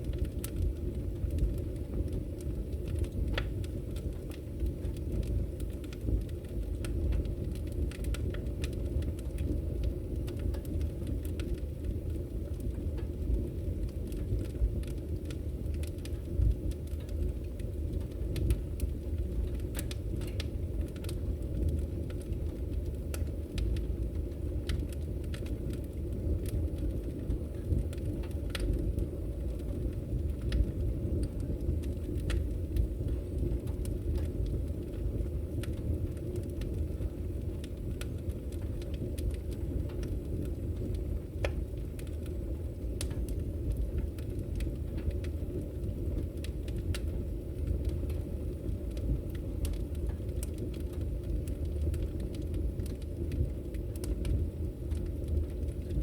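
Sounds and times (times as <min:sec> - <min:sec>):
fire rumbling: 0:00.0 - 0:56.0
wood crackling and popping: 0:00.0 - 0:56.0.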